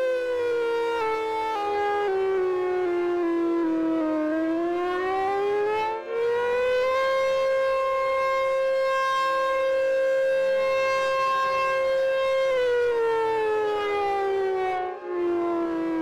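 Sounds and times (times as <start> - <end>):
warning siren wailing: 0.0 - 16.0.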